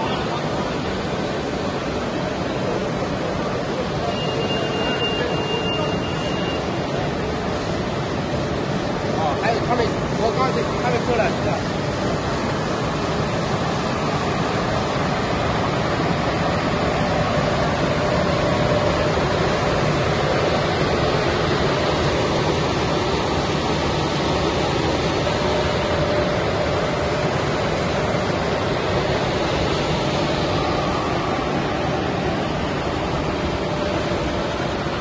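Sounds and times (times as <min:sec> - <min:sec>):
blowers and motors rushing: 0:05.9 - 0:35.0.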